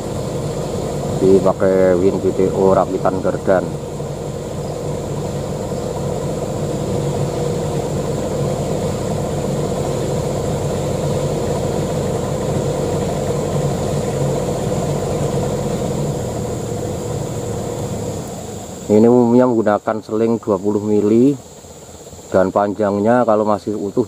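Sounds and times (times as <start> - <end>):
constant whining tone: 0.0 - 24.0
diesel truck engine idling: 0.0 - 24.0.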